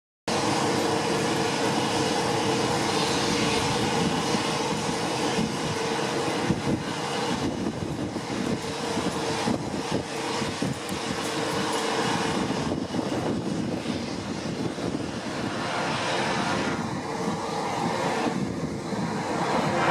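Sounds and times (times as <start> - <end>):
jet engines at takeoff power: 0.3 - 19.9.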